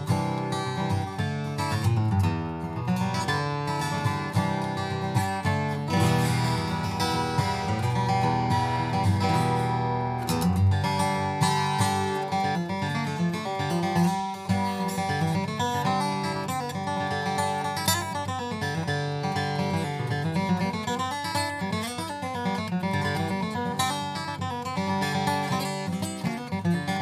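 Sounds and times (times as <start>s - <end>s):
acoustic guitar strummed and picked: 0.0s - 27.0s.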